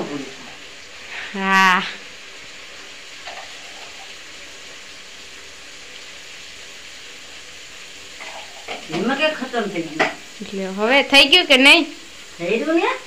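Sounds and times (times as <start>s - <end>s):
curry sizzling in a pot: 0.0s - 13.0s.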